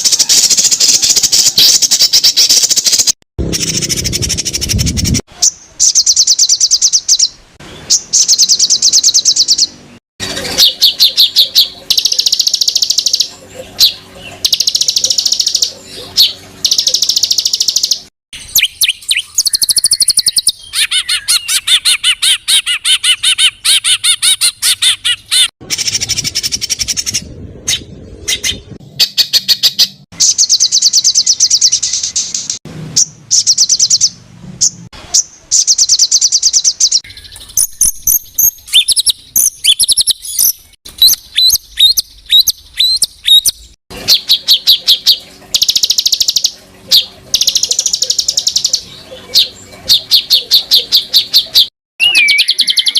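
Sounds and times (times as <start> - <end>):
songbird trills and calls: 0.0 - 52.9.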